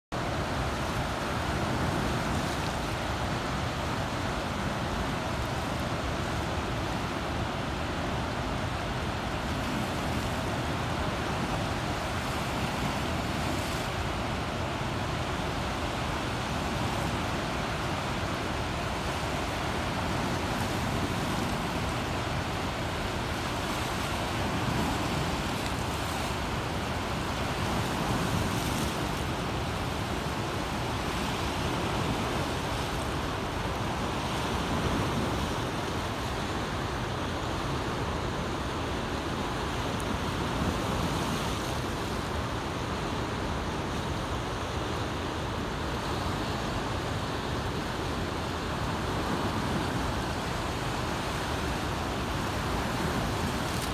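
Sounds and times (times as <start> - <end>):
flood water rushing: 0.2 - 53.9.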